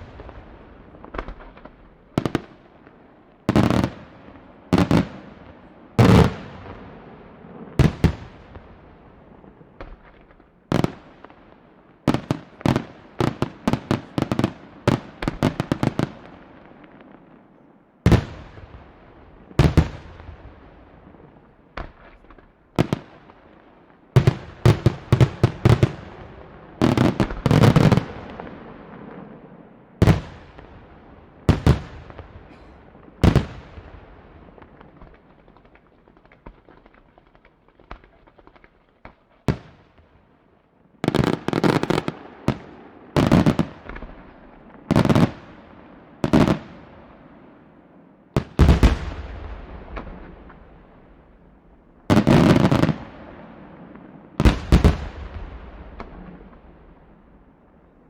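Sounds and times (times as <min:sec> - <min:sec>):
fireworks bursting: 0:00.0 - 0:40.2, 0:41.0 - 0:47.4, 0:48.4 - 0:58.0.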